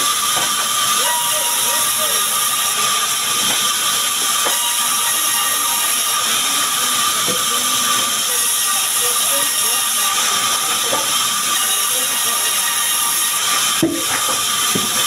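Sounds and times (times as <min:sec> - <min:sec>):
band saw cutting logs: 0:00.0 - 0:15.0.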